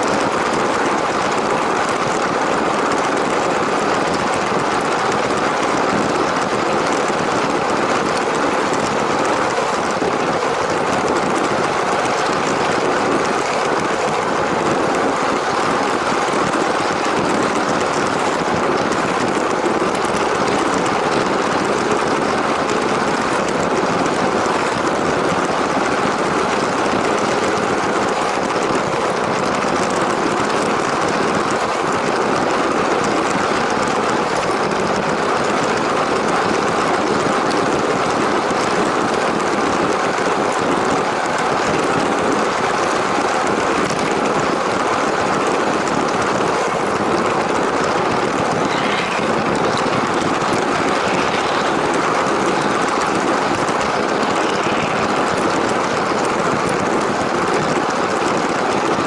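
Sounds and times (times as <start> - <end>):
toy train rumbling on plastic track: 0.0 - 59.0.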